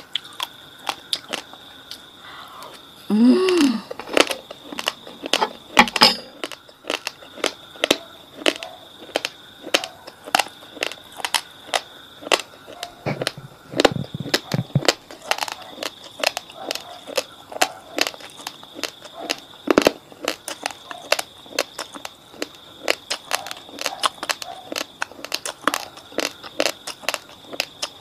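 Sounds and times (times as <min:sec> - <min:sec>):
rice grains crunching between teeth: 0:00.0 - 0:02.0, 0:03.5 - 0:28.0.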